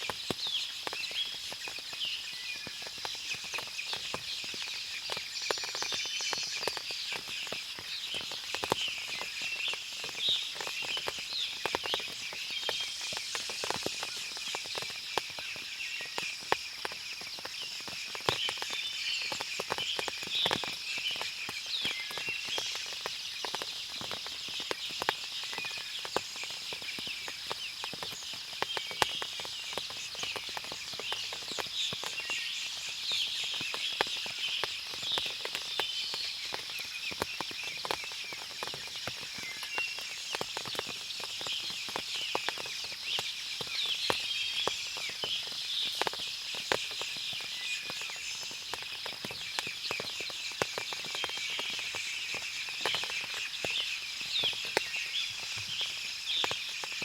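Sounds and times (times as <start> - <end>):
birds chirping: 0.0 - 57.0
water dripping from trees: 0.0 - 57.0.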